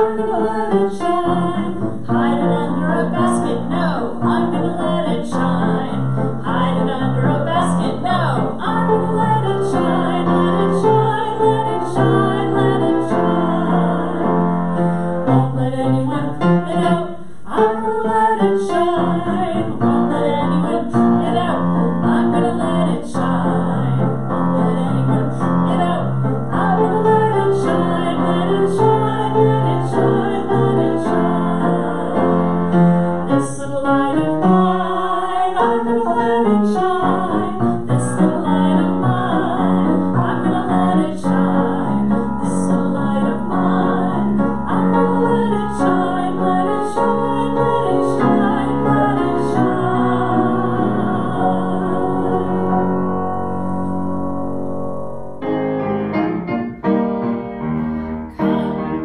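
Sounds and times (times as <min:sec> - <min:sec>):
woman singing: 0:00.0 - 0:14.3, 0:15.3 - 0:32.3, 0:33.3 - 0:52.8, 0:58.4 - 0:59.0
upright piano: 0:00.0 - 0:59.0.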